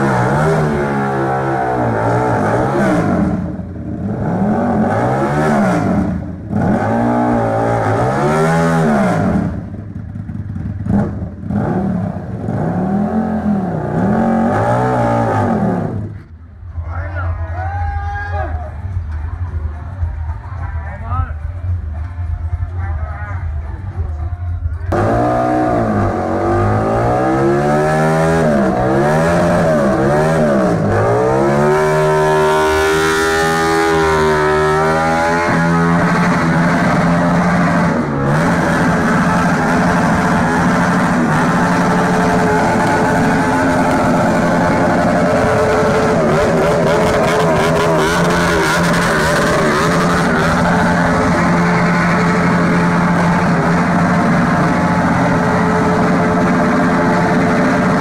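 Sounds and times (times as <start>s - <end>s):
engine revving hard: 0.0s - 9.6s, 10.8s - 16.1s, 24.9s - 58.0s.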